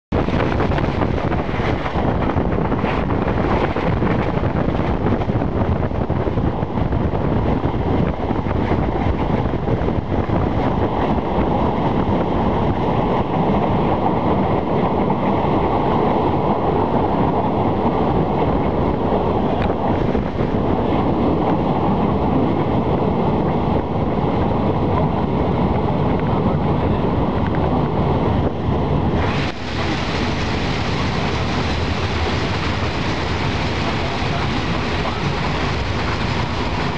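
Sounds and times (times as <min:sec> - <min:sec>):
train running noise: 0:00.1 - 0:36.9
wind buffeting microphone: 0:00.1 - 0:36.9.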